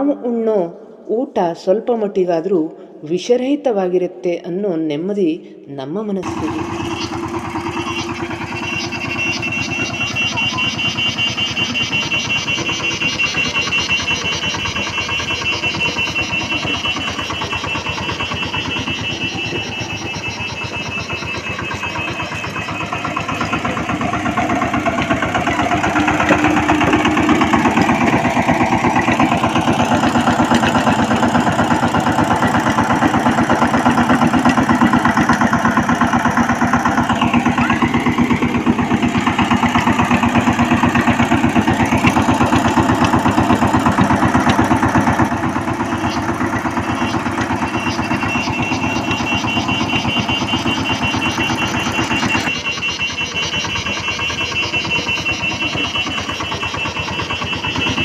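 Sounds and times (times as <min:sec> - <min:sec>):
power tiller engine running: 0:06.2 - 0:58.0.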